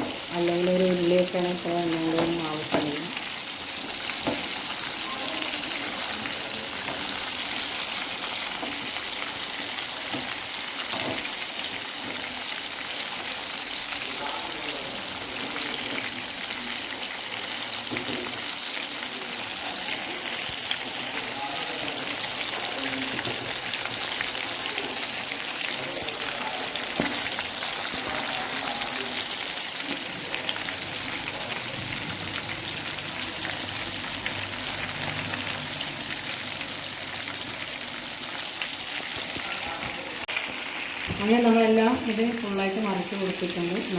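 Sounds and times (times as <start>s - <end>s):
chicken frying in hot oil: 0.0s - 43.9s.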